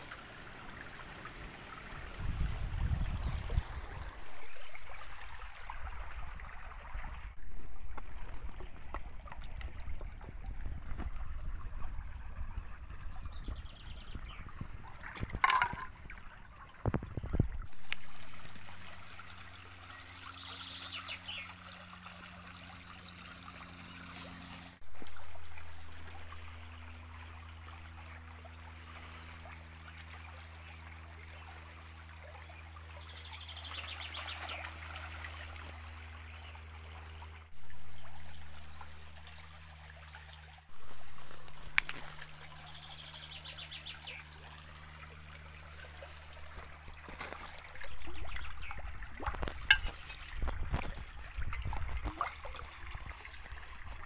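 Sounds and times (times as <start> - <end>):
stream trickling over stones: 0.0 - 54.0.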